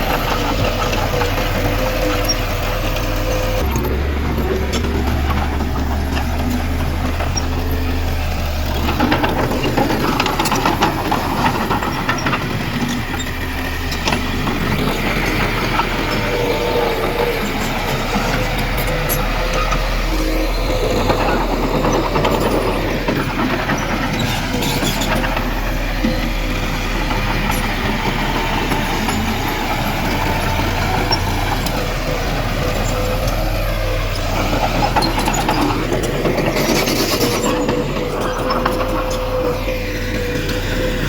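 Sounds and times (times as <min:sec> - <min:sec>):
heavy diesel machinery engine drone: 0:00.0 - 0:41.0
mid-pitched machinery whine: 0:00.0 - 0:41.0.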